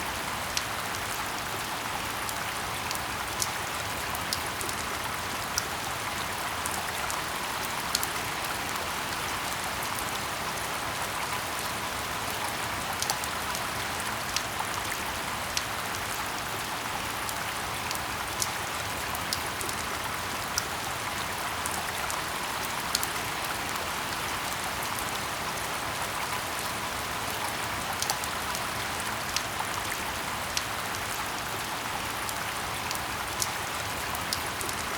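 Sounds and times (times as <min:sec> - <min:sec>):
steady rain in forest: 0:00.0 - 0:34.9.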